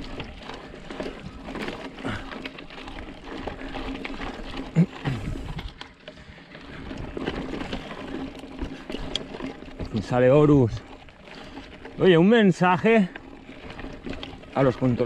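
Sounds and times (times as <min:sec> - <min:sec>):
bike rattling: 0:00.0 - 0:15.0
tyres crunching on gravel: 0:00.0 - 0:15.0.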